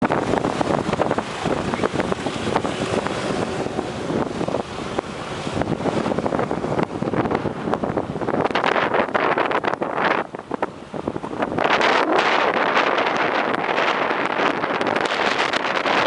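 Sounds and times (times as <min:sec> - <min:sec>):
river rushing in flood: 0:00.0 - 0:16.0
wind buffeting microphone: 0:00.0 - 0:16.0.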